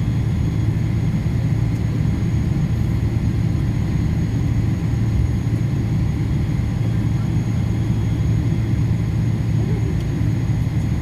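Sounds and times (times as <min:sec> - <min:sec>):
faint high whine: 0:00.0 - 0:10.4
airliner engine and cabin rumble: 0:00.0 - 0:11.0.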